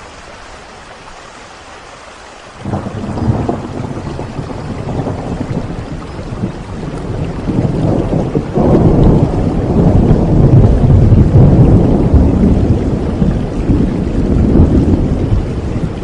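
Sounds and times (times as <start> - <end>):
steady rain: 0.0 - 16.0
low rumble of thunder: 2.6 - 16.0.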